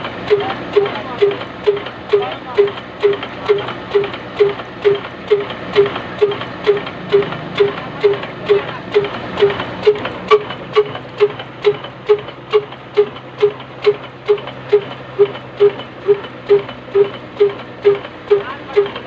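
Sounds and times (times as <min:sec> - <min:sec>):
slow diesel engine running: 0:00.0 - 0:19.0.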